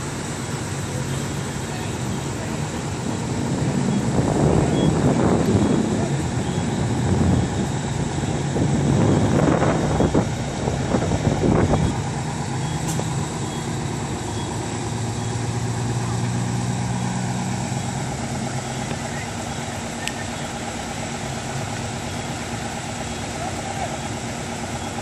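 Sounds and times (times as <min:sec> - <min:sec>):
fire engine idling: 0:00.0 - 0:25.0
uneven rumbling: 0:00.0 - 0:25.0.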